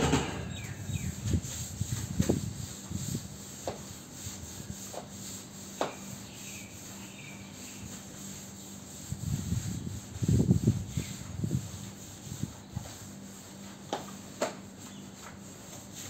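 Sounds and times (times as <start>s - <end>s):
broom scrubbing wet tiled floor: 0.0s - 16.0s.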